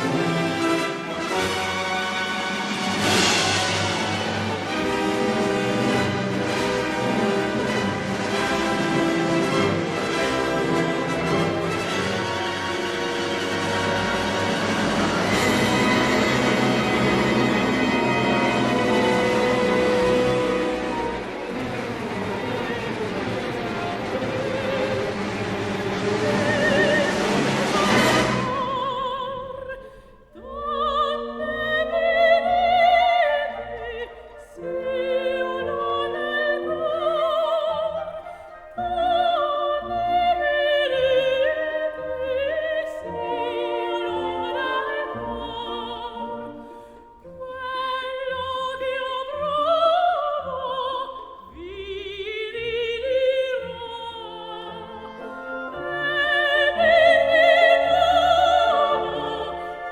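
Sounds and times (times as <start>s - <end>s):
orchestral accompaniment: 0.0s - 59.9s.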